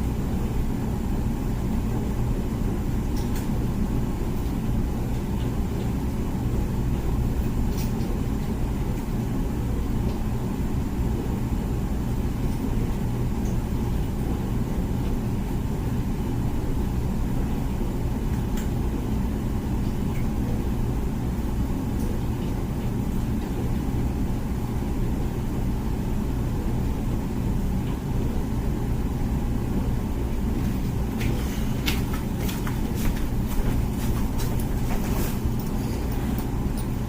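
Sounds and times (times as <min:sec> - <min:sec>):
dishwasher motor humming: 0:00.0 - 0:37.0.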